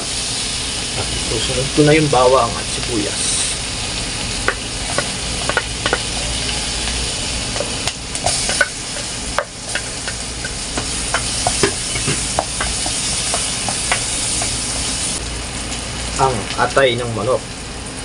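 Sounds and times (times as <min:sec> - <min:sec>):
garlic and onion sizzling in butter: 0:00.0 - 0:18.0.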